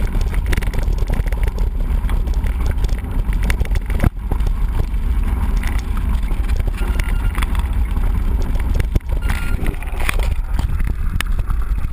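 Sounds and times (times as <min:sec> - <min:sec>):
bike rattling over rough ground: 0:00.0 - 0:11.9
wind buffeting microphone: 0:00.0 - 0:11.9.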